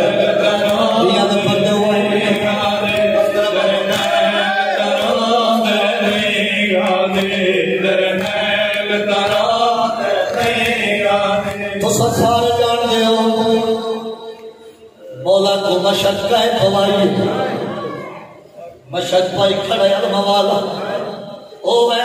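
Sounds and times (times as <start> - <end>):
lead reciter into microphone: 0.0 - 22.0
men chanting a lament: 0.0 - 22.0.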